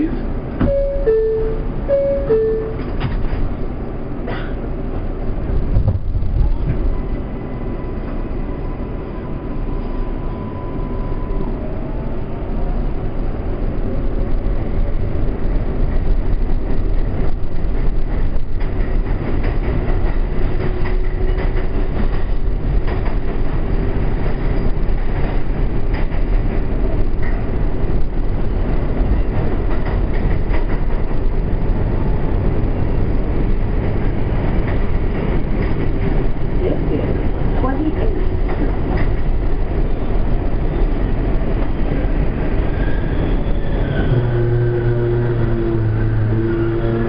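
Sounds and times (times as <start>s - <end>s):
subway train wheels rumbling: 0.0s - 47.0s.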